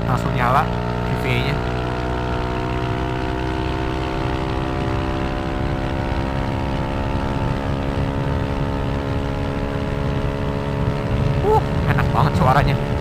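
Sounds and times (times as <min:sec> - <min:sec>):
scooter engine at high pitch: 0:00.0 - 0:13.0.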